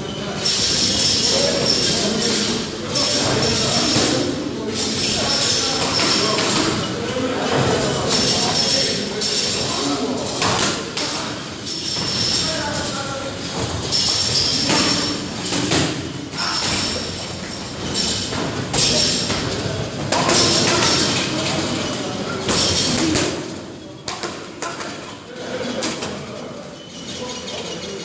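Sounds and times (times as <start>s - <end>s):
people's voices in background: 0.0s - 28.0s.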